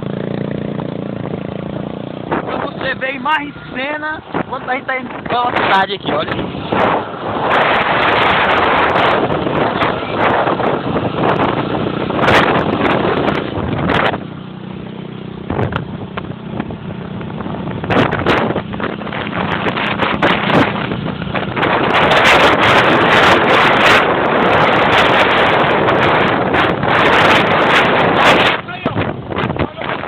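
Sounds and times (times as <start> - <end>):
low engine hum: 0.0 - 30.0
wind rushing over microphone: 0.0 - 30.0.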